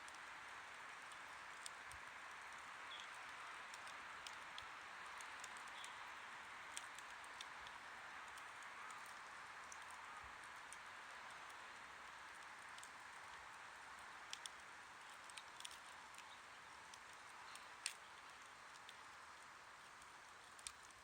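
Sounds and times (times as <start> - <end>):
campfire hissing: 0.0 - 21.0
fire crackles and pops: 0.0 - 21.0.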